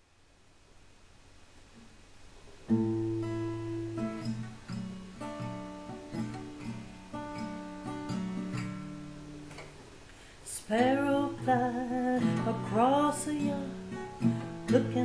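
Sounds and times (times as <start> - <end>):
faint hiss: 0.0 - 15.0
acoustic guitar chords: 2.7 - 15.0.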